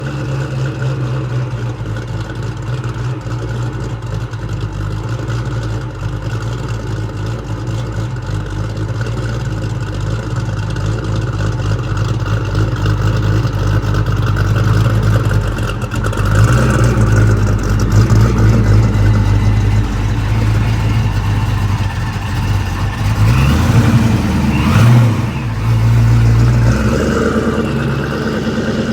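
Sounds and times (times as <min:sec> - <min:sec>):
supercharged engine idling and revving: 0:00.0 - 0:28.9.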